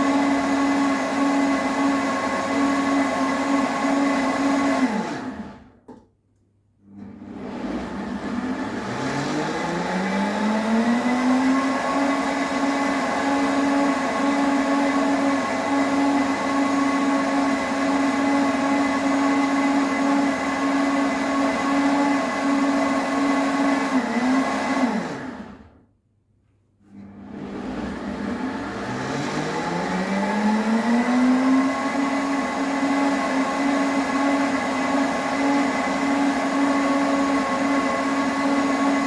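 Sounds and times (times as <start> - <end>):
blender motor running: 0.0 - 5.8, 6.8 - 25.8, 26.9 - 39.0.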